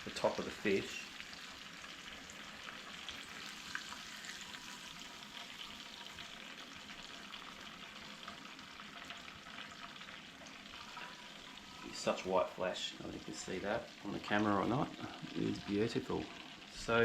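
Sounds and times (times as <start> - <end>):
fish frying in hot oil: 0.0 - 17.0.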